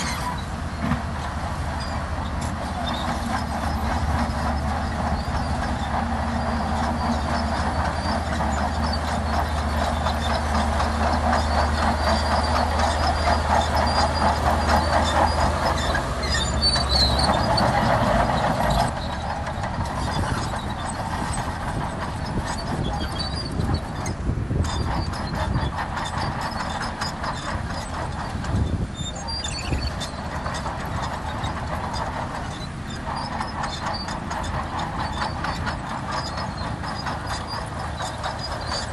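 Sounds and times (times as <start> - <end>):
diesel engine running under load: 0.0 - 38.9
rapid metallic clatter: 0.0 - 38.9.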